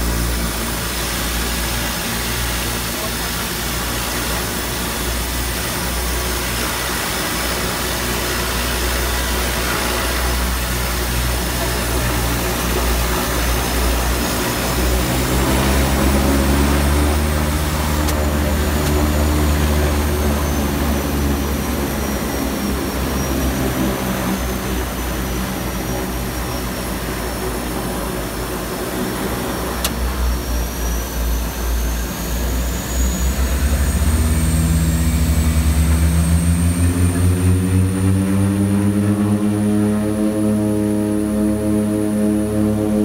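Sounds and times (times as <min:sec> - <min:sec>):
propeller drone: 0:00.0 - 0:43.0
turbine whine: 0:00.0 - 0:43.0.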